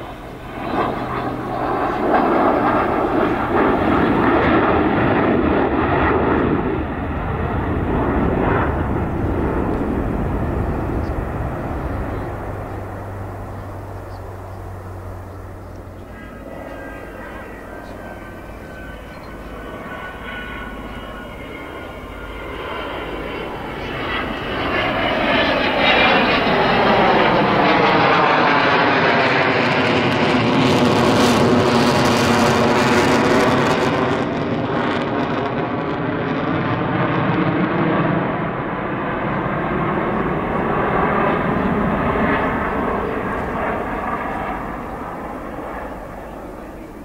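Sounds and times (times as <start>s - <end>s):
jet bomber passing overhead: 0.0s - 47.0s.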